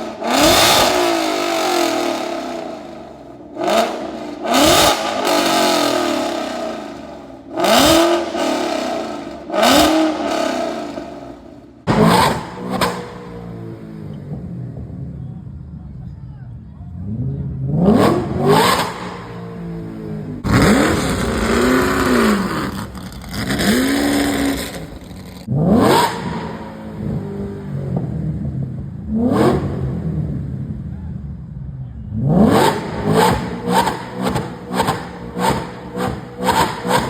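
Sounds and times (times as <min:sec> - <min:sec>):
car engine revving: 0:00.0 - 0:16.1, 0:16.7 - 0:37.0.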